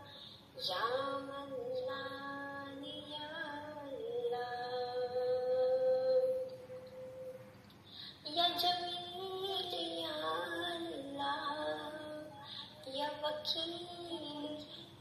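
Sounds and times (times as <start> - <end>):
person singing devotional song: 0.0 - 7.4, 8.0 - 15.0.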